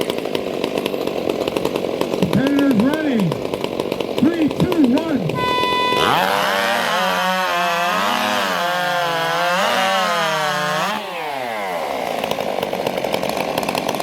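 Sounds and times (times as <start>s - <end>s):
chainsaws cutting through log: 0.0s - 14.0s.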